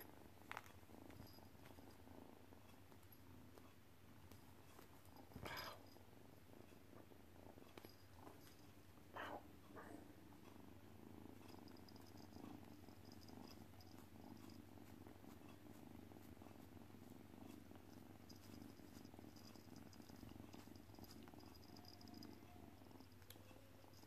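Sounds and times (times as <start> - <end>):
kitten purring: 0.0 - 24.0.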